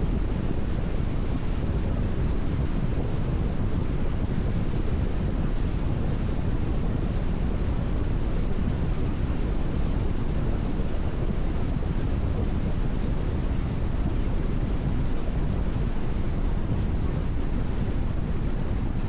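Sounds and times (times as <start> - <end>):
rushing wind: 0.0 - 19.0.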